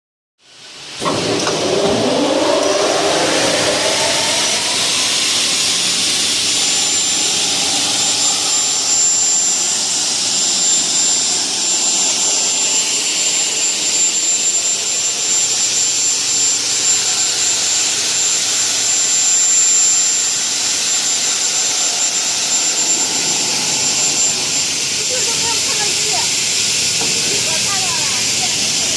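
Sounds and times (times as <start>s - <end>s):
saw motor spinning with whine: 0.4s - 28.9s
loud hiss: 0.5s - 28.9s.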